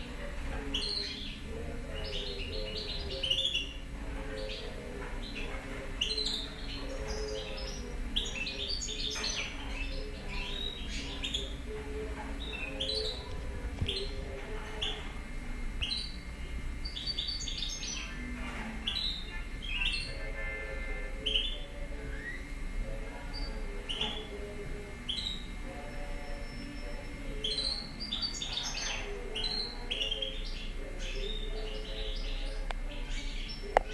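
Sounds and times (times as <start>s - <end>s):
finch twittering and trilling: 0.0s - 33.9s
steady low hum: 0.0s - 33.9s.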